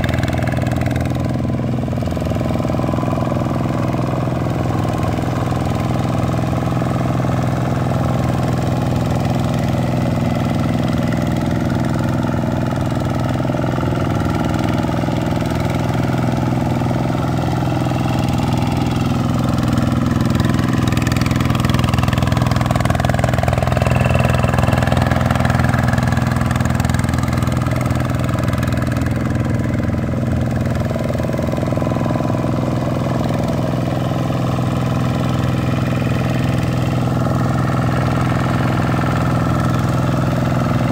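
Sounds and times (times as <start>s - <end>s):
diesel tractor engine running: 0.0s - 40.9s
wheels churning water: 0.0s - 40.9s.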